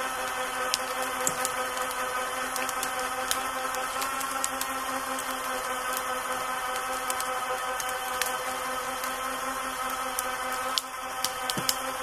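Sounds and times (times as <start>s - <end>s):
electric winch humming under load: 0.0s - 12.0s.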